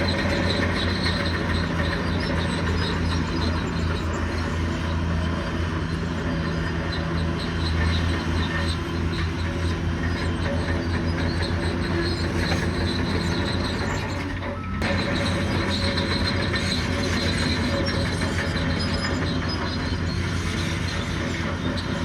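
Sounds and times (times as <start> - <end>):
bulldozer diesel engine running: 0.0 - 22.0
crawler tracks clanking and squealing: 0.0 - 22.0.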